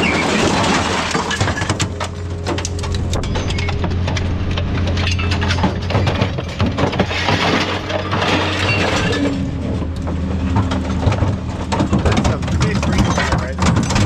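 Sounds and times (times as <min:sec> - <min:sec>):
diesel engine humming: 0:00.0 - 0:14.0
scrap metal clattering: 0:00.0 - 0:14.0.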